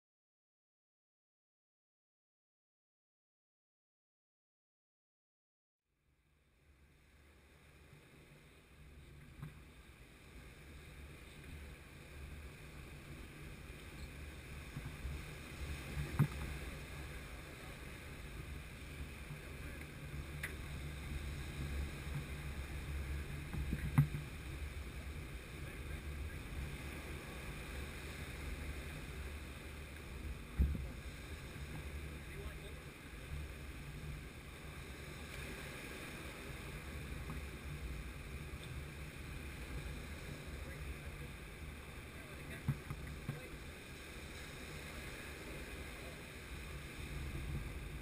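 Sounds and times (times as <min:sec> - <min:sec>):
wind rumble on microphone: 0:06.8 - 0:48.0
breaking surf: 0:07.7 - 0:48.0.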